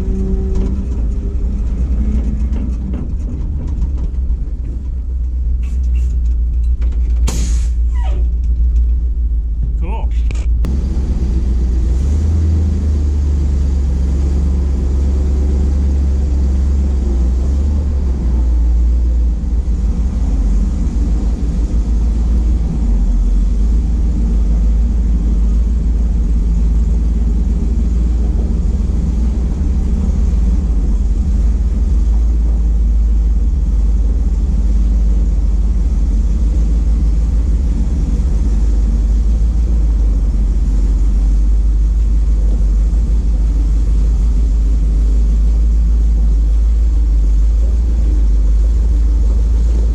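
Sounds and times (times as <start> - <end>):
truck engine rumbling: 0.0 - 49.9.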